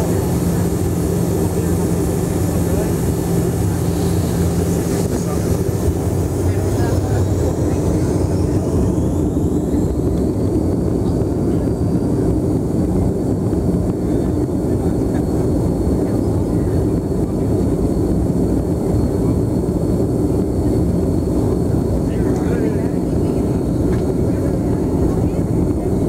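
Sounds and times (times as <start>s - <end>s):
aircraft cabin low rumble: 0.0s - 26.0s
high turbofan whine: 0.0s - 26.0s.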